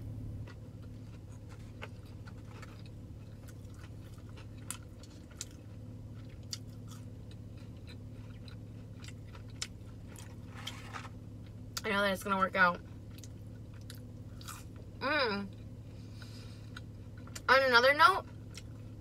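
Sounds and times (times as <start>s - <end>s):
steady low hum: 0.0s - 19.0s
person chewing with crunches: 0.3s - 11.9s, 12.8s - 14.9s, 15.5s - 17.5s, 18.2s - 19.0s.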